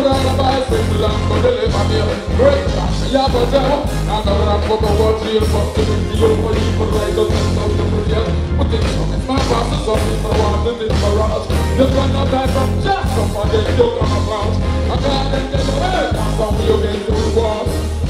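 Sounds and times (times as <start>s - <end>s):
live reggae band: 0.0s - 18.0s
man singing into microphone: 0.0s - 18.0s.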